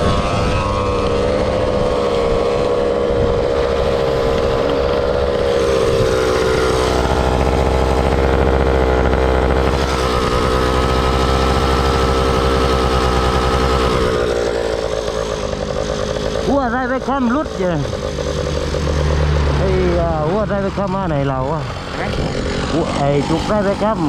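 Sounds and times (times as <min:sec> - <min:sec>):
high whine: 0:00.0 - 0:24.0
motor scooter engine running: 0:00.0 - 0:24.0.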